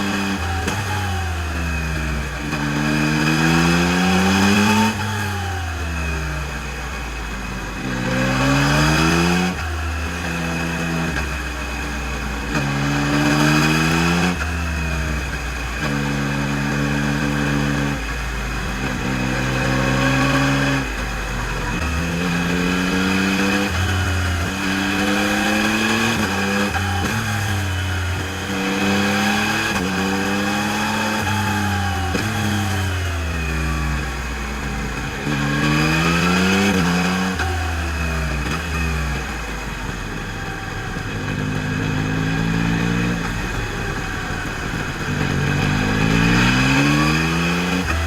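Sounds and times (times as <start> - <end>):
motorcycle engine accelerating through gears: 0.0 - 48.0.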